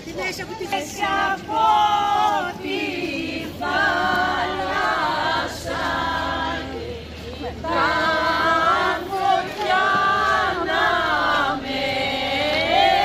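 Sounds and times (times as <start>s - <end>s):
group singing unaccompanied: 0.6s - 13.0s.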